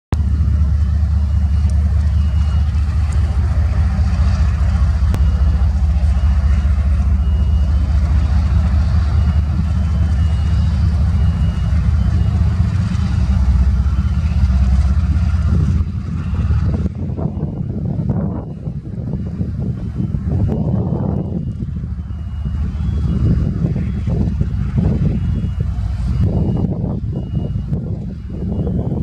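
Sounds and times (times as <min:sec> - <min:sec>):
diesel locomotive engines rumbling: 0:00.1 - 0:29.0.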